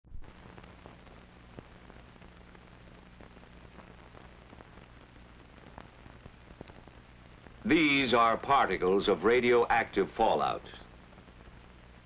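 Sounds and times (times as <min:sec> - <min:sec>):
crackles and pops: 0:00.1 - 0:12.0
film soundtrack hiss: 0:00.1 - 0:12.0
steady low hum: 0:00.1 - 0:12.0.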